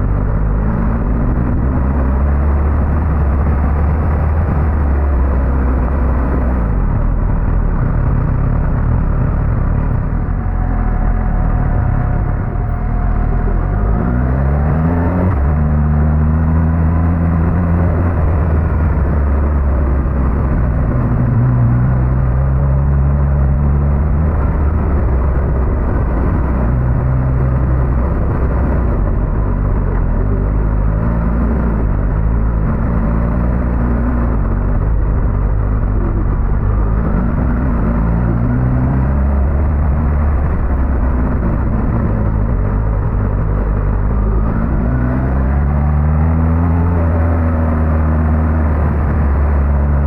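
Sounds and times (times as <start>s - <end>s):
heavy wind: 0.0s - 50.0s
motorcycle engine running: 0.0s - 50.0s
road rumble: 0.0s - 50.0s.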